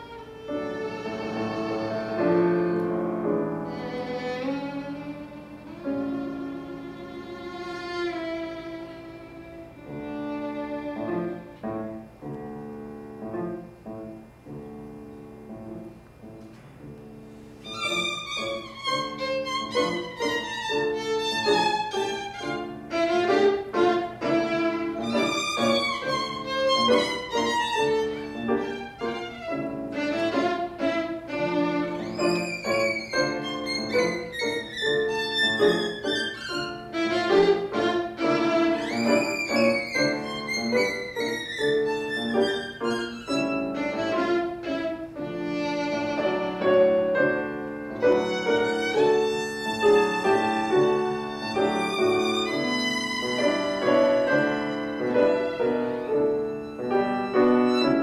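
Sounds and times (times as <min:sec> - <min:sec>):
violin fast passages: 0:00.0 - 0:11.7, 0:17.5 - 0:58.0
piano accompaniment: 0:00.0 - 0:58.0.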